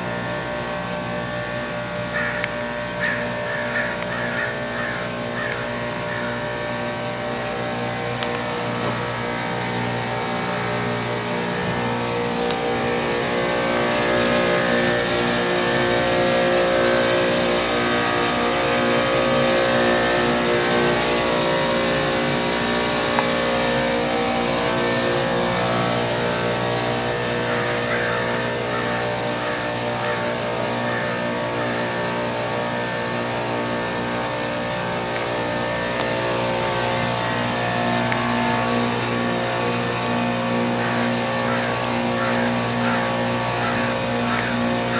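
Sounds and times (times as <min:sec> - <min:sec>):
heat pump humming: 0:00.0 - 0:44.9.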